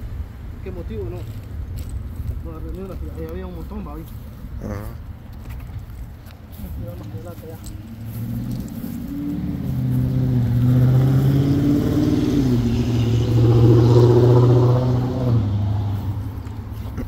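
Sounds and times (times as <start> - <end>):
motor vehicle engine running: 1.2 - 17.0.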